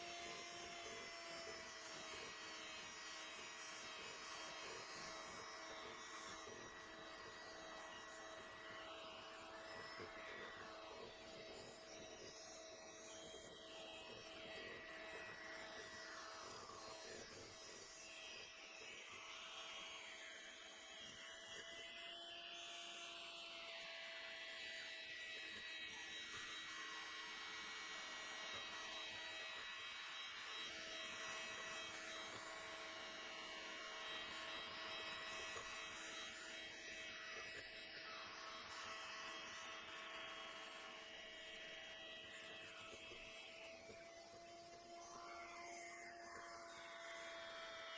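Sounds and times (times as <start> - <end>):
electric hand mixer running: 0.0 - 47.9.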